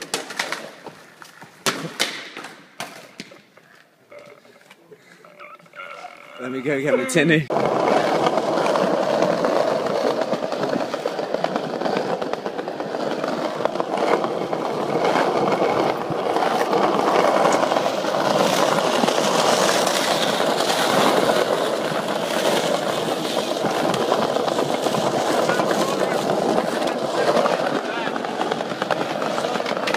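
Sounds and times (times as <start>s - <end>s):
skateboard wheels rolling on stone: 0.0s - 29.9s.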